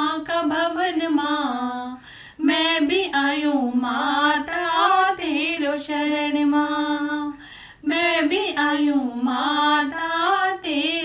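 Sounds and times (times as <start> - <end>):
women singing unaccompanied: 0.0 - 11.0.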